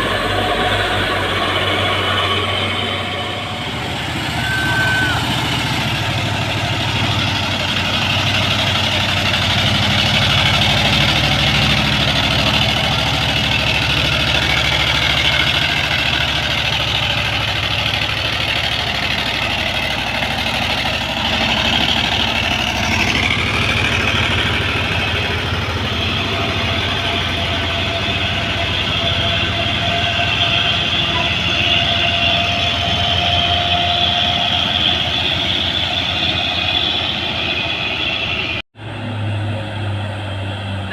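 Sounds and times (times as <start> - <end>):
heavy truck engine throbbing: 0.0 - 40.9.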